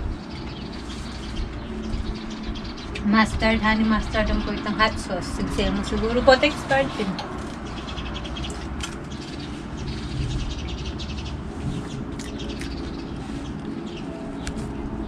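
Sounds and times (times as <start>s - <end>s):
low background hum: 0.0s - 15.0s
small birds chirping: 0.0s - 15.0s.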